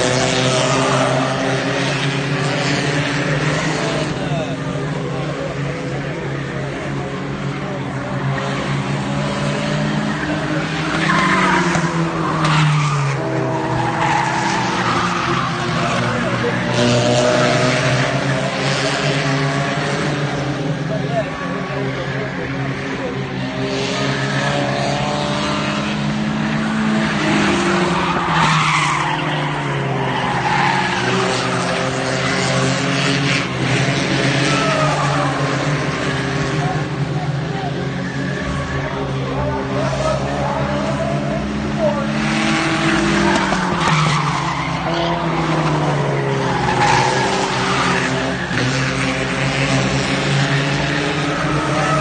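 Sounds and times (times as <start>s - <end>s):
race car engines: 0.0s - 52.0s.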